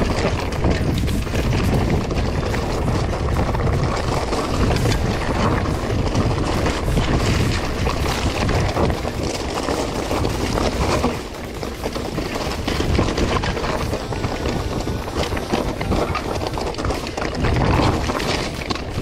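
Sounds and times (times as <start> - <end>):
bike knocking and rattling: 0.0 - 19.0
tyres crunching over stones: 0.0 - 19.0
wind buffeting microphone: 0.0 - 19.0.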